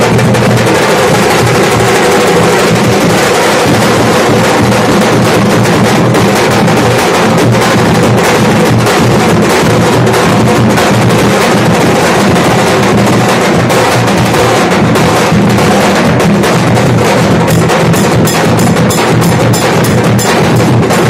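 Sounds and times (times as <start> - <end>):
dhol drums beaten with sticks: 0.0 - 21.0.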